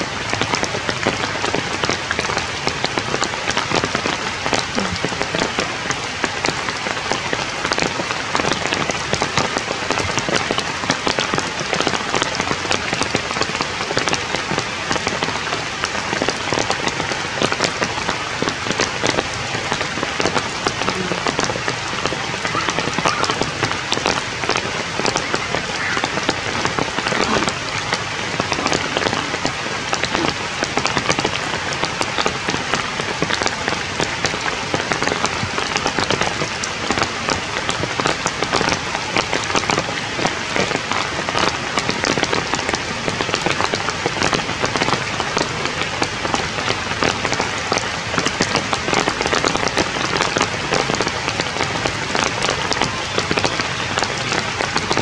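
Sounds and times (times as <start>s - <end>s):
rain pattering on leaves: 0.0s - 55.0s.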